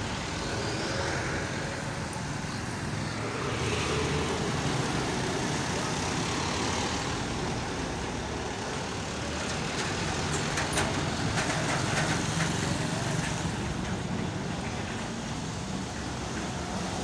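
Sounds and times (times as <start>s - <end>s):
heavy truck passing: 0.0s - 17.0s
road traffic: 0.0s - 17.0s.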